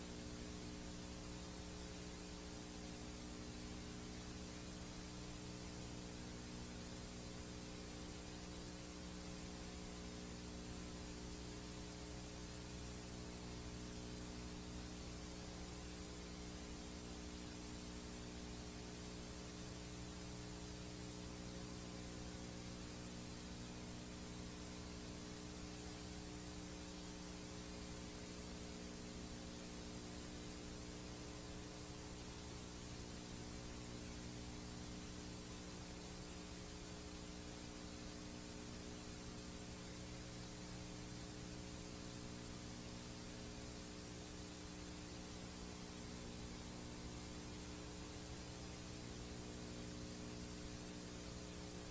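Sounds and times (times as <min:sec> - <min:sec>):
low mains hum: 0:00.0 - 0:51.9
tape hiss: 0:00.0 - 0:51.9.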